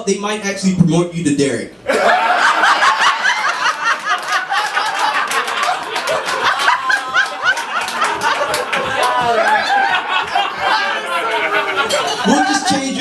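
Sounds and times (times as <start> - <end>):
audience laughing: 1.9 - 13.0
people clapping: 2.0 - 12.6.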